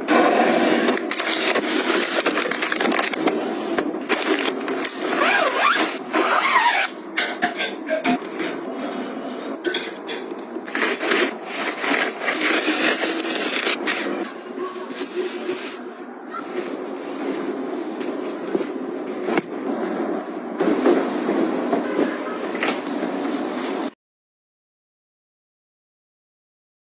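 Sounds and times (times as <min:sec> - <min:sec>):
household items rubbing and scraping: 0:00.0 - 0:07.1, 0:08.1 - 0:24.0.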